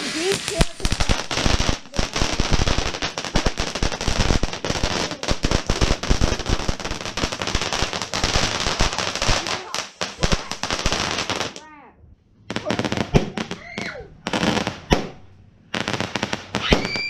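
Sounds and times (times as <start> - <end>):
firework fountain crackling: 0.0 - 11.7, 12.4 - 17.0.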